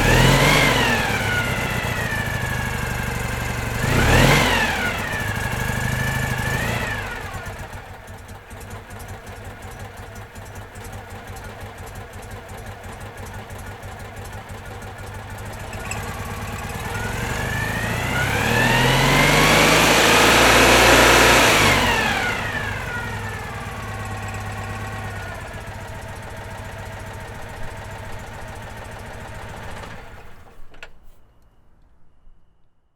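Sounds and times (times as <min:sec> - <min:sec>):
car engine idling and revving: 0:00.0 - 0:30.5.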